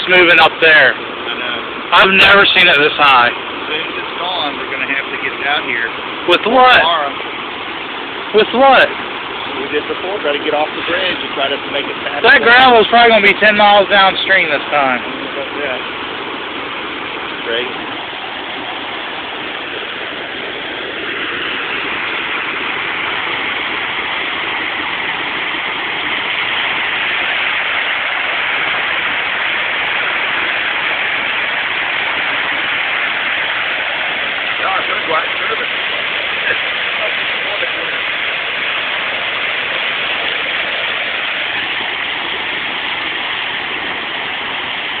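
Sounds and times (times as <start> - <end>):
floodwater rushing: 0.0 - 45.0.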